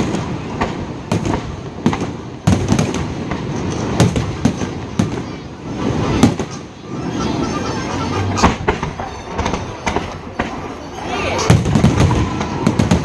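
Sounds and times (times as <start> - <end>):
fireworks bursting: 0.0 - 13.0
fireworks crackling rumble: 0.0 - 13.0.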